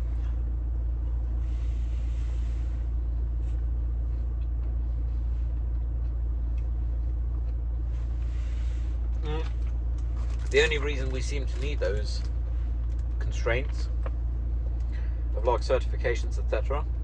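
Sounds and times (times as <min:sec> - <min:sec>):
low car cabin rumble: 0:00.0 - 0:17.0.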